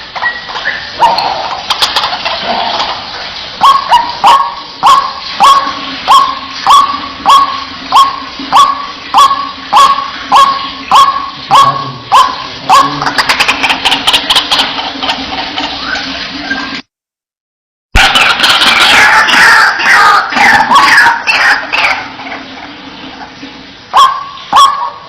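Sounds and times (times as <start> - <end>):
waterhen calling: 0.0 - 16.8, 18.0 - 25.0.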